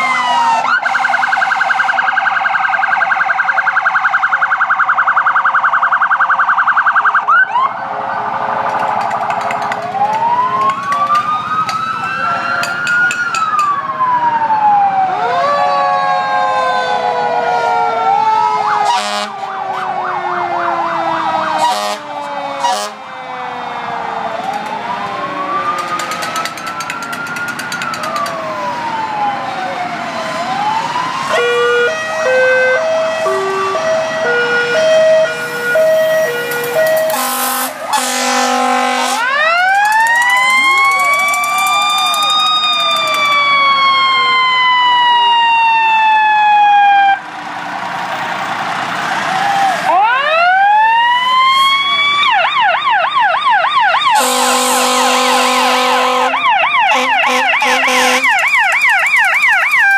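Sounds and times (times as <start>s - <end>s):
fire truck sirens wailing: 0.0s - 59.9s.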